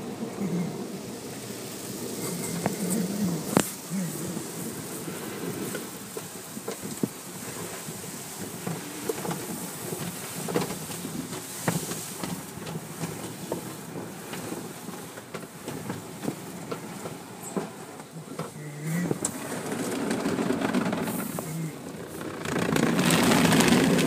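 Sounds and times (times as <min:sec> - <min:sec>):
water spraying on car: 0:00.0 - 0:24.0.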